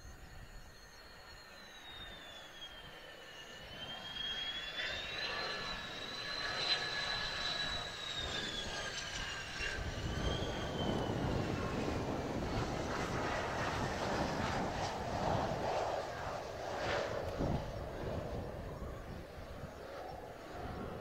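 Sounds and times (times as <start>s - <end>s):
jet engine whine and rumble: 0.0s - 21.0s.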